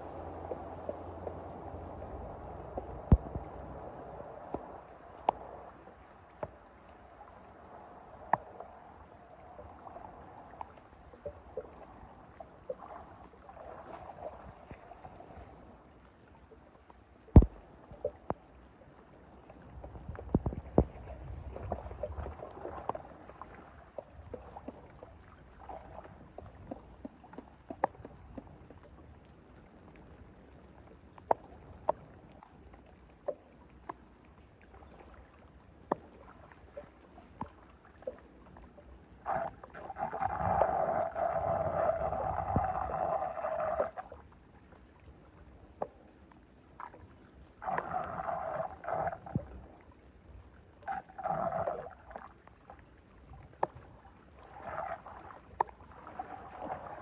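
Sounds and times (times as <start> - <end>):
water sloshing and splashing: 0.0 - 46.1, 46.7 - 57.0.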